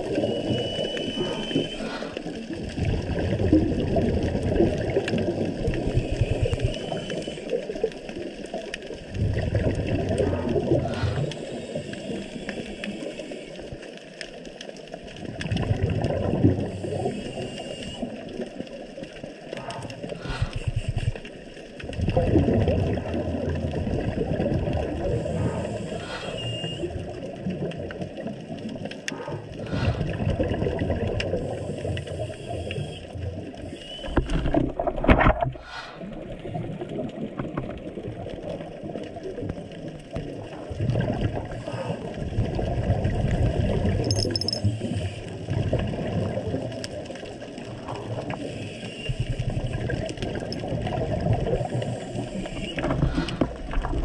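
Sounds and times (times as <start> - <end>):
exhaled bubbles underwater: 0.0 - 54.0
muffled water hiss: 0.0 - 54.0.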